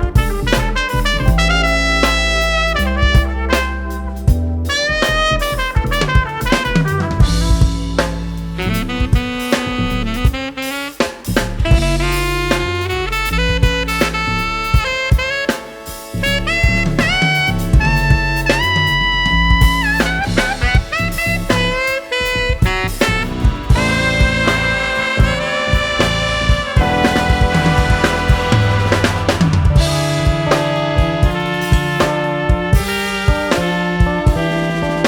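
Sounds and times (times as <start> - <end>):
upbeat jazz music: 0.0 - 35.0.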